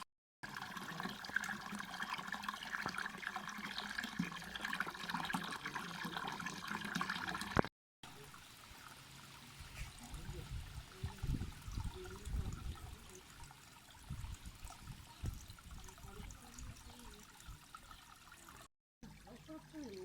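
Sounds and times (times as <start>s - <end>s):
water trickling: 0.4s - 20.0s.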